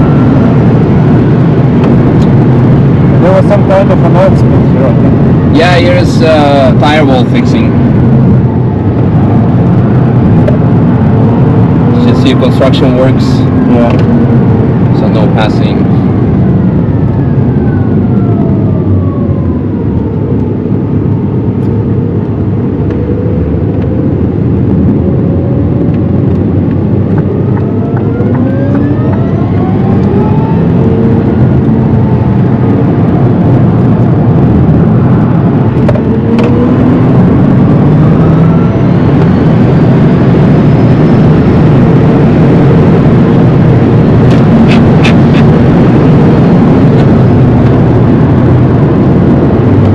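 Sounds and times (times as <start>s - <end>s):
tyre road and wind noise: 0.0s - 49.9s.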